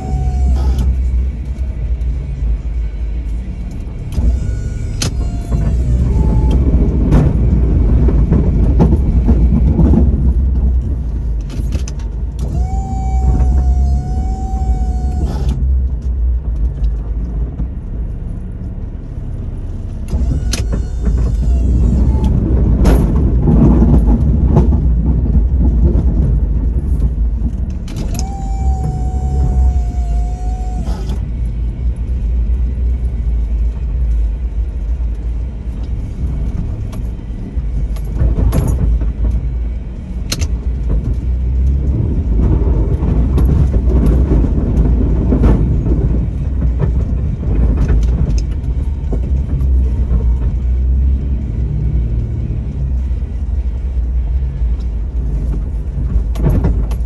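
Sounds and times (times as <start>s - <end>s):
truck engine running under load: 0.0s - 57.0s.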